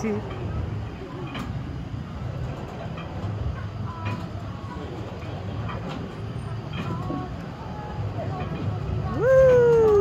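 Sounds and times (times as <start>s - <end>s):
carousel mechanical rumble: 0.0s - 10.0s.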